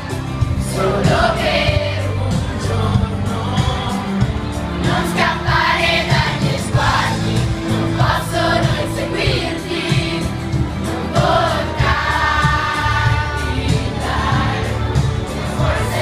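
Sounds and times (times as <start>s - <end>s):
crowd singing pop song: 0.0s - 16.0s
music backing: 0.0s - 16.0s.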